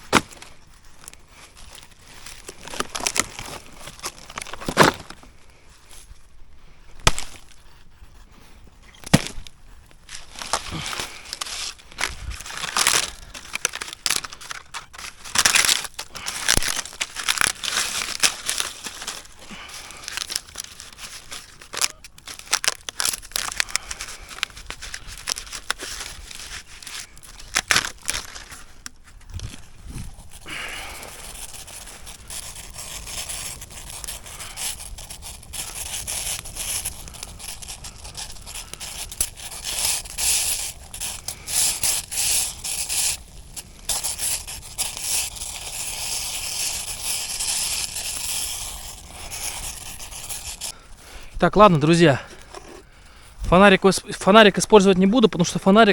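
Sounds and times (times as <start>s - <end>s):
campfire crackling and snapping: 0.0s - 5.6s, 6.4s - 51.4s.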